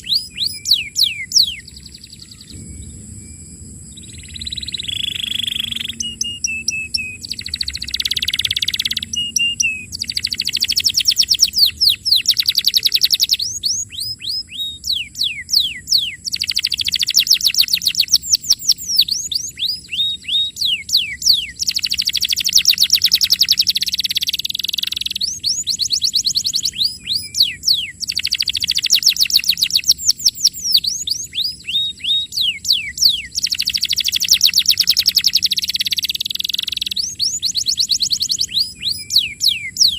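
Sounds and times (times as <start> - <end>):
canary singing trills: 0.0 - 3.2, 3.9 - 39.9.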